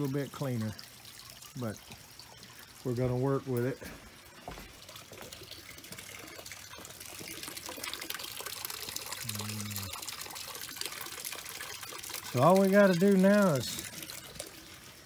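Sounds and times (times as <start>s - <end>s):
pond waterfall splashing: 0.0s - 15.0s.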